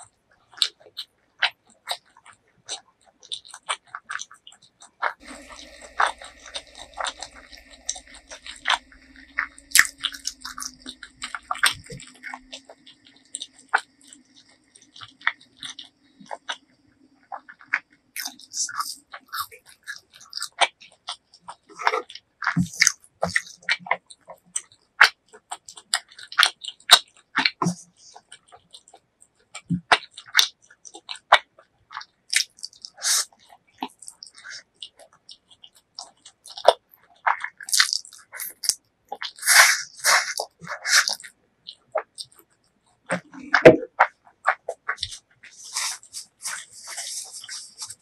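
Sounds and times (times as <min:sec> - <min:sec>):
chewing and biting: 0:00.0 - 0:48.0
wet mouth clicks and smacks: 0:05.2 - 0:16.6, 0:17.4 - 0:48.0.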